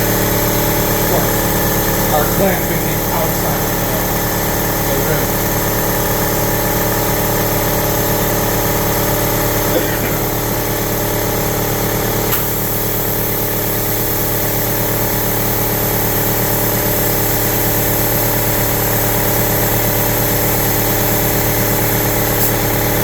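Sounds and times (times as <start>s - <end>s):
air compressor running: 0.0s - 23.0s.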